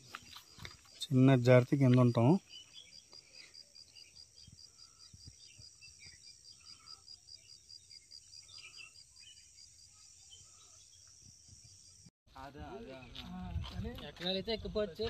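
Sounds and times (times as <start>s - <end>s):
faint insect chirping: 0.0s - 12.1s.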